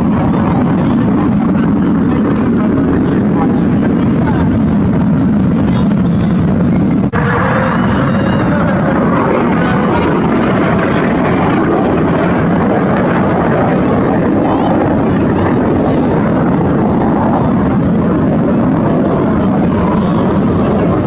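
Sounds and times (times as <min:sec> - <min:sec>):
aircraft engine rumble: 0:00.0 - 0:21.0.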